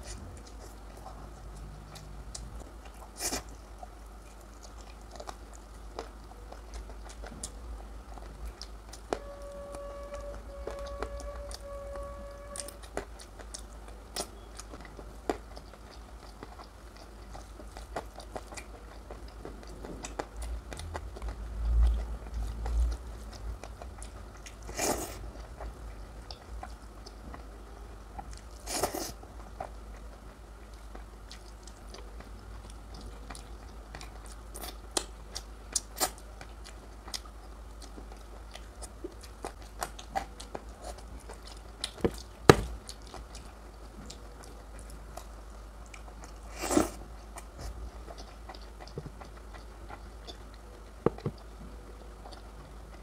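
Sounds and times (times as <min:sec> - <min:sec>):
person chewing: 0:00.0 - 0:53.0.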